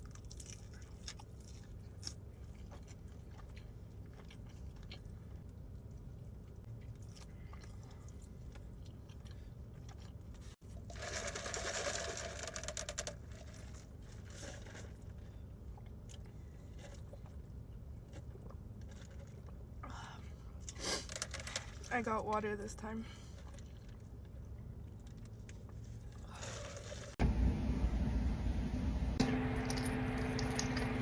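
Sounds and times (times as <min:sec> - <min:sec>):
chewing and crunching food: 0:00.0 - 0:21.9, 0:23.0 - 0:27.2
low steady hum: 0:00.0 - 0:31.0.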